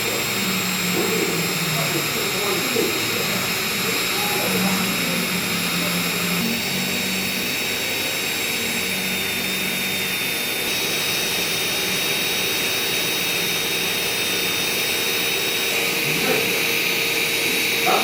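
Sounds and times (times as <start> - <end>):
electric drill high whine: 0.0 - 18.0.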